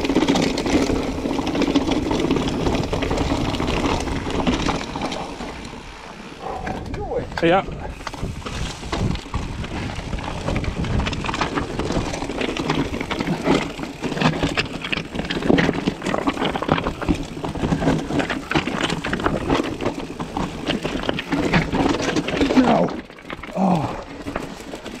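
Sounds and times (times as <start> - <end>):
bike rattling over rocks: 0.0 - 25.0.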